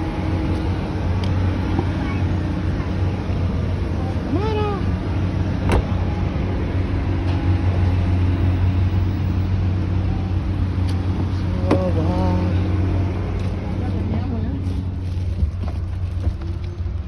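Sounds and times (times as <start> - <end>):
car road noise inside car: 0.0 - 17.0.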